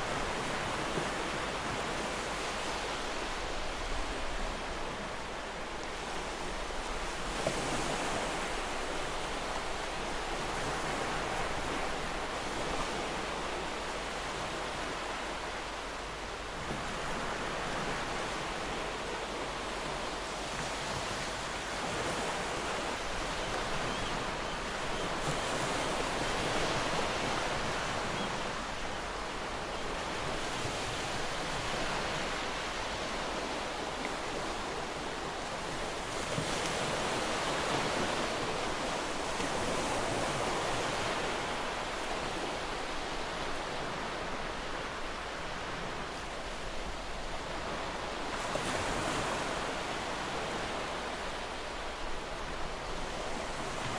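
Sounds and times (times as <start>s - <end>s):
sea waves washing on shore: 0.0s - 53.9s.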